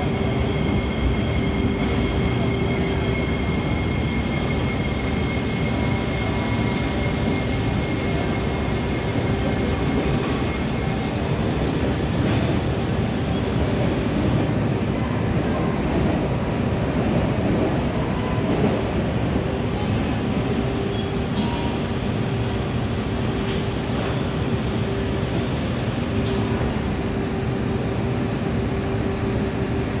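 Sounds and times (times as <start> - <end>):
train humming with constant tone: 0.0 - 30.0.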